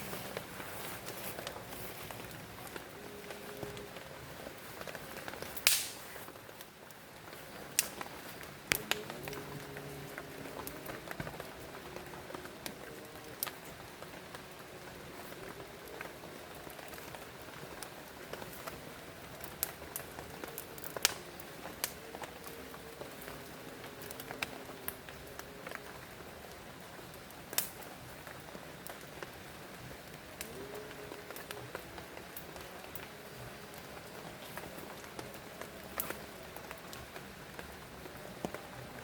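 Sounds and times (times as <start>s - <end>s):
rain falling: 0.0s - 39.0s
raindrops pattering on a surface: 0.0s - 39.0s.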